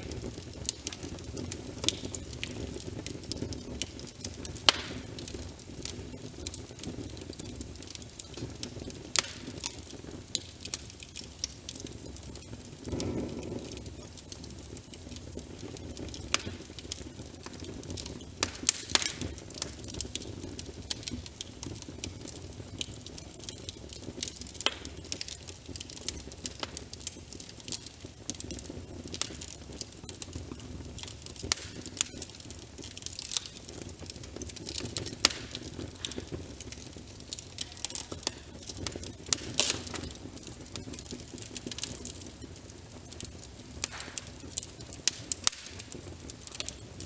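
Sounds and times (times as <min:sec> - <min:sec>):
rain: 0:00.0 - 0:47.0
wood fire crackling and popping: 0:00.0 - 0:47.0.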